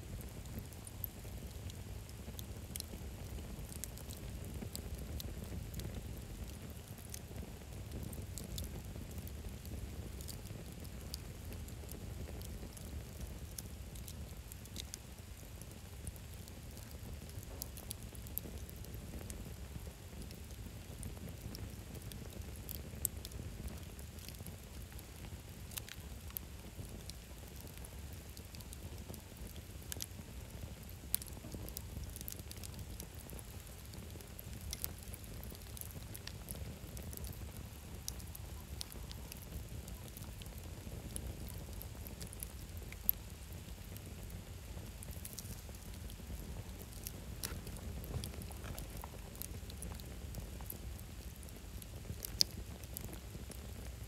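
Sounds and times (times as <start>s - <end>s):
campfire crackling and popping: 0.1s - 54.0s.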